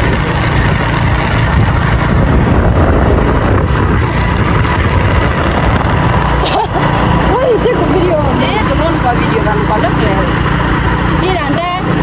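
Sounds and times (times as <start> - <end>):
motorbike engine: 0.0 - 12.0
road noise: 0.0 - 12.0
wind buffeting microphone: 0.0 - 12.0.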